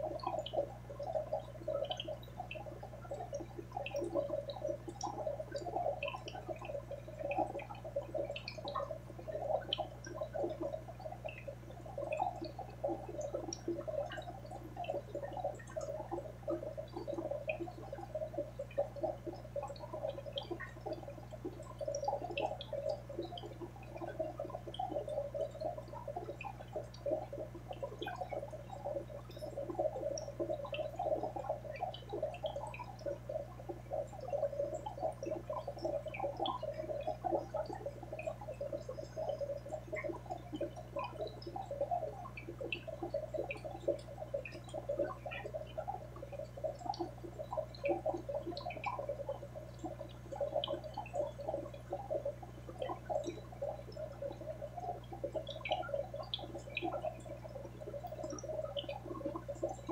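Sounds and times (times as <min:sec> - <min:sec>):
aquarium water bubbling: 0:00.0 - 0:59.9
low steady hum: 0:00.0 - 0:59.9.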